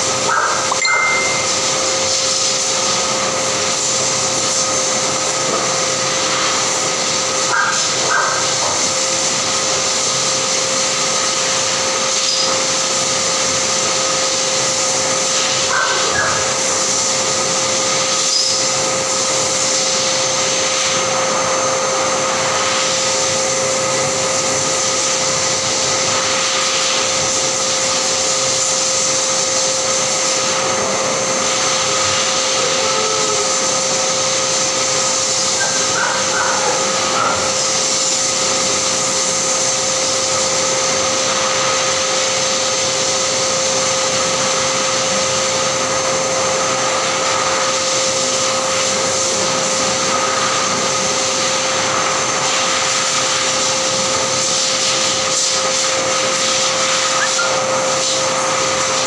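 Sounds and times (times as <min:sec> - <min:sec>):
electric blower motor humming: 0:00.0 - 0:59.0.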